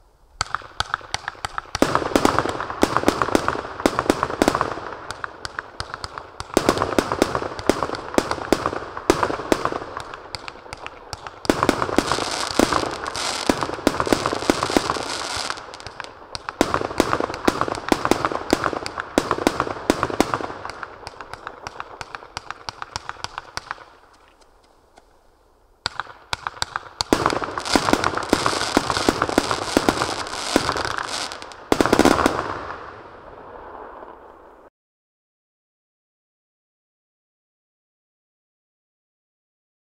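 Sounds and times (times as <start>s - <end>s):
fireworks launching and bursting: 0.0s - 25.1s, 25.8s - 34.7s.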